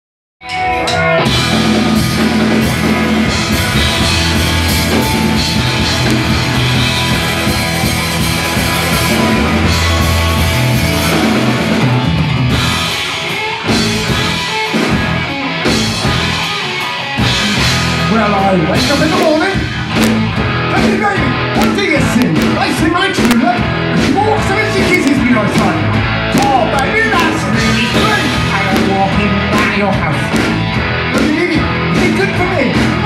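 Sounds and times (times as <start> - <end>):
bass guitar: 0.4 - 33.0
drum kit: 0.4 - 33.0
electric guitars: 0.4 - 33.0.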